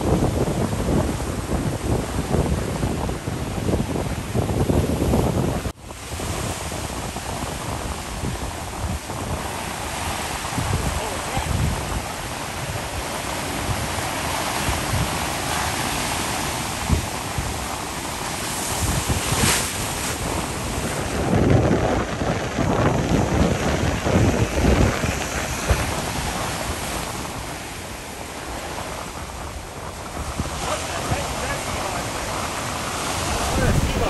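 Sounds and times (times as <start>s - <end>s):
ocean surf washing: 0.0s - 34.0s
wind buffeting microphone: 0.0s - 34.0s.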